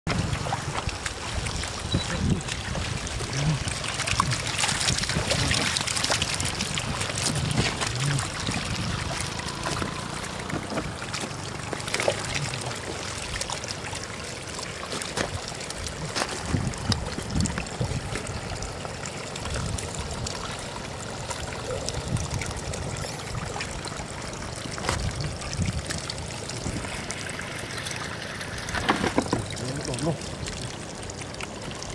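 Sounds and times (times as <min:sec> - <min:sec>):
fish flopping and splashing: 0:00.1 - 0:21.7, 0:22.4 - 0:31.6
water trickling over mud: 0:00.1 - 0:31.9.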